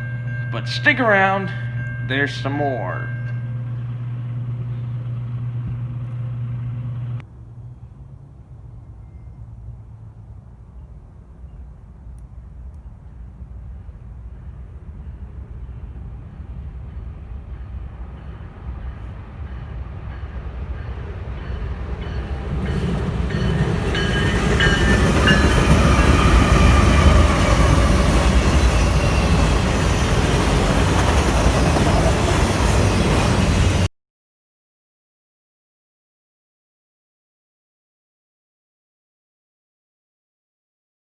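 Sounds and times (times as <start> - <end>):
train rumble: 0.0 - 33.9
wheels clattering on rails: 0.0 - 33.9.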